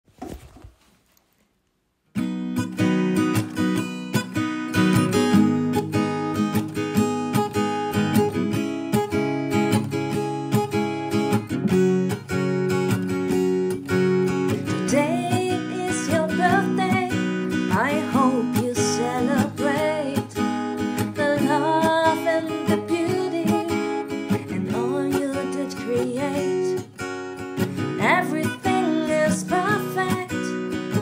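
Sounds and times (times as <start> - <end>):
acoustic guitar strumming: 2.2 - 31.0.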